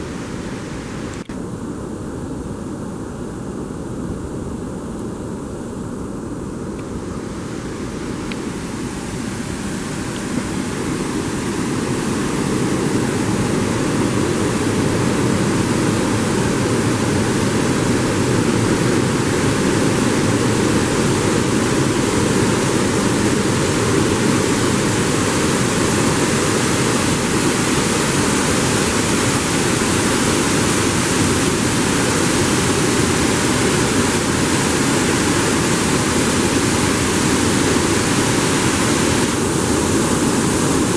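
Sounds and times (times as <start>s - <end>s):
water rushing through sluice: 7.2s - 40.9s.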